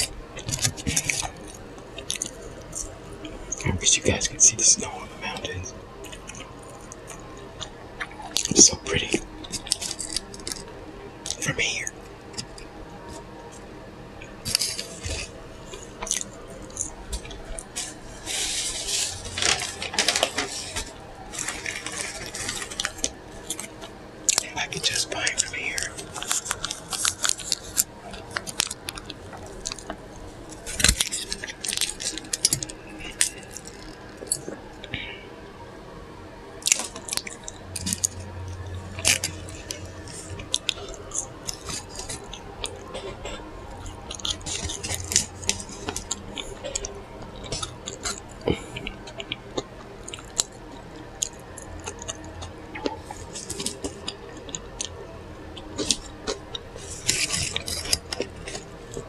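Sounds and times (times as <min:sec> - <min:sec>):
chewing with wet mouth smacks: 0:00.0 - 0:04.3, 0:05.1 - 0:35.2, 0:36.6 - 0:59.0
low hum: 0:00.0 - 0:59.0.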